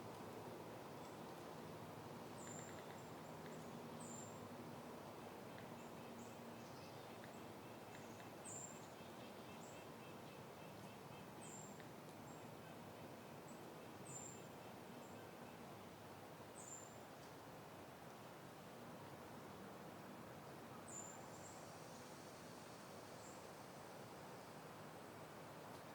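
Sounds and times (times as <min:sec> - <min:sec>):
soft wind: 0:00.0 - 0:25.9.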